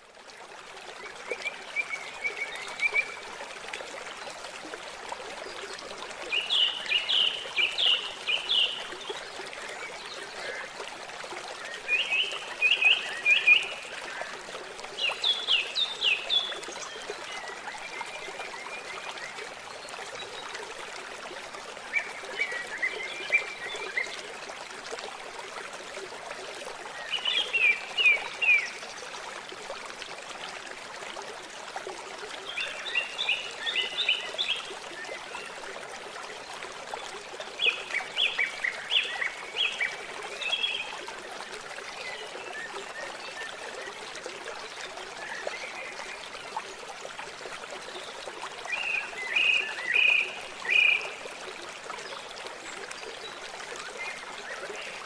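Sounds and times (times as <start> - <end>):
water trickling: 0.0 - 55.0.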